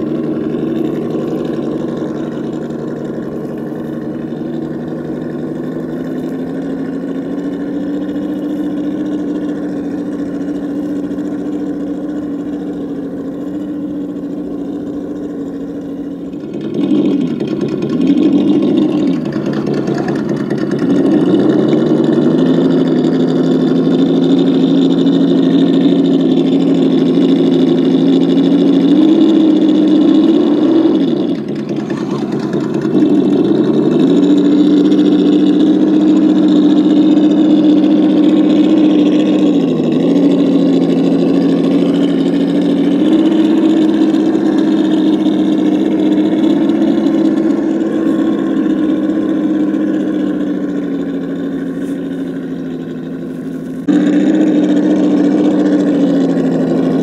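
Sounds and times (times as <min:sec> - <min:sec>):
electronic engine sound revving: 0:00.0 - 0:57.0.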